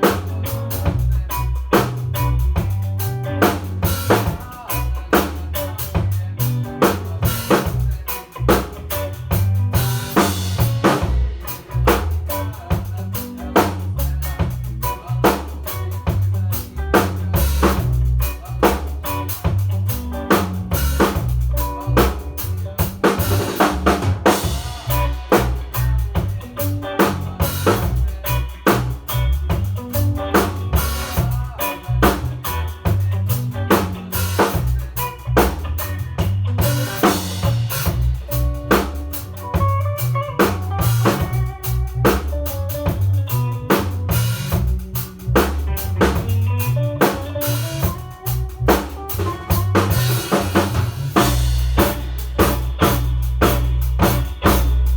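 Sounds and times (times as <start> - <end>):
band playing instrumental: 0.0 - 54.9
deep bass line: 0.0 - 54.9
drum kit groove: 0.0 - 54.9.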